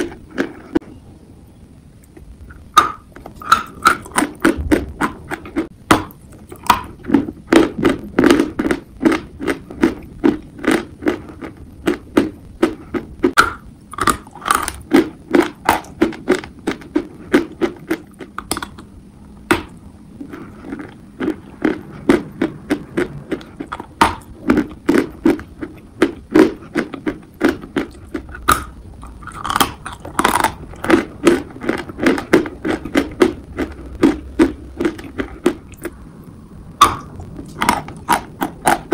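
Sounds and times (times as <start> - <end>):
chalk being chewed crunching: 2.0 - 18.9, 19.6 - 36.0, 36.8 - 38.9.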